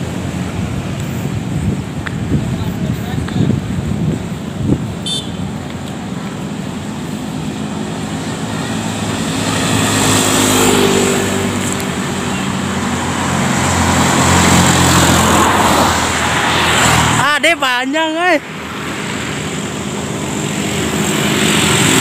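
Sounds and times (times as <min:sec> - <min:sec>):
motorbikes and scooters passing: 0:00.0 - 0:22.0.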